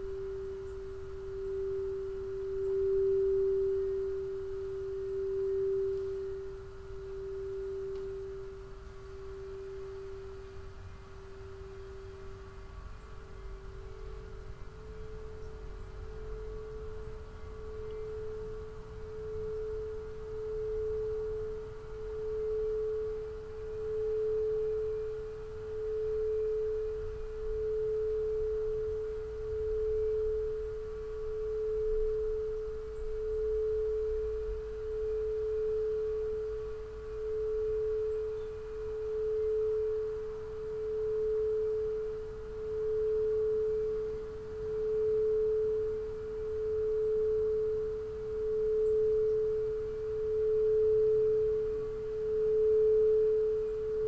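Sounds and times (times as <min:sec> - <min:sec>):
crystal singing bowl tone: 0:00.0 - 0:54.0
lower singing bowl tone: 0:00.0 - 0:54.0.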